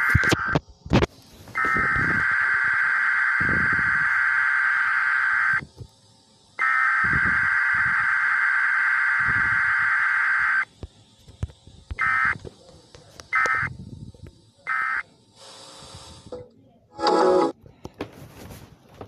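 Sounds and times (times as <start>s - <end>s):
buzzy digital data tones: 0.0s - 16.3s.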